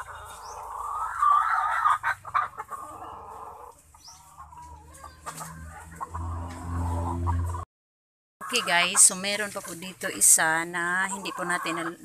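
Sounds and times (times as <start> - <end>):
chickens clucking: 0.0 - 7.7, 8.4 - 12.0.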